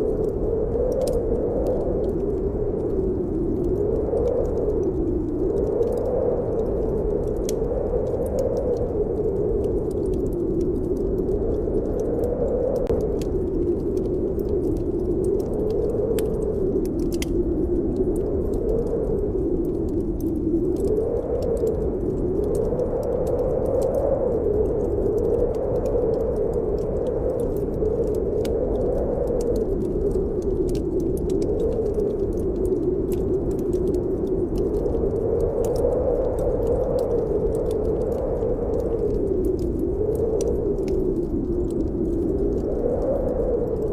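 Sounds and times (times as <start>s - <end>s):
snowstorm wind blowing: 0.0s - 43.9s
wood fire crackling: 0.0s - 43.9s.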